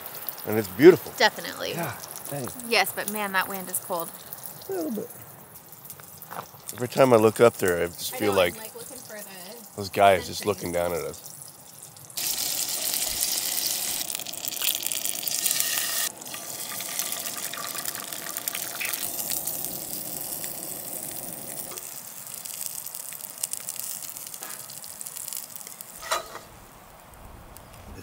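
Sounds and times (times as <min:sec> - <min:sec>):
food sizzling in a skillet: 0:00.0 - 0:27.0.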